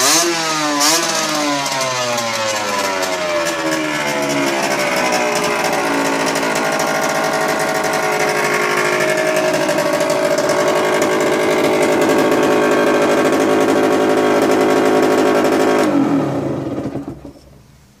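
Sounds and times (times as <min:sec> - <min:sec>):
two-stroke engine revving: 0:00.0 - 0:17.3.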